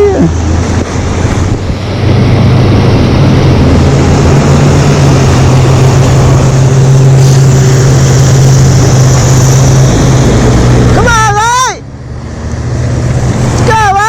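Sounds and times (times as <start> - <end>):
wet road rush: 0.0 - 14.0
wind: 0.0 - 14.0.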